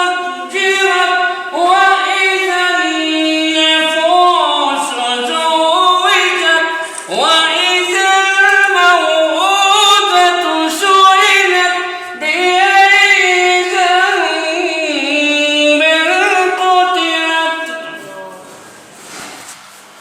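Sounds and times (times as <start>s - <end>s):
person chanting recitation: 0.0s - 18.9s.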